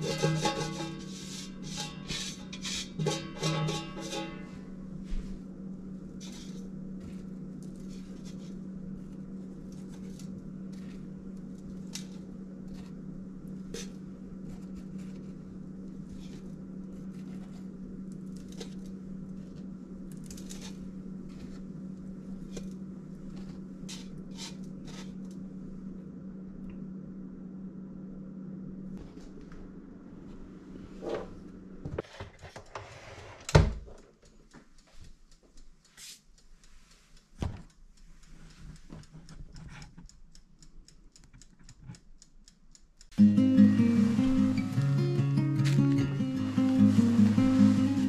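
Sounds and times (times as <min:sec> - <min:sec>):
steady low hum: 0:00.0 - 0:32.8, 0:33.6 - 0:48.0.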